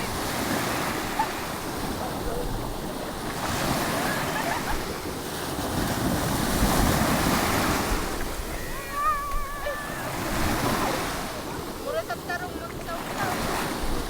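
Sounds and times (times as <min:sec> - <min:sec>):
surf washing on beach: 0:00.0 - 0:14.0.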